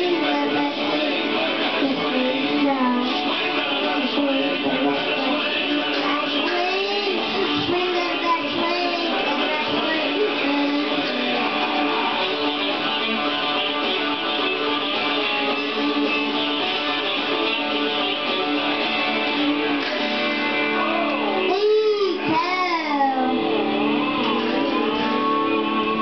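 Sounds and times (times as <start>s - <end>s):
sliding bending guitar notes: 0.0s - 26.0s
strummed guitar backing music: 0.0s - 26.0s.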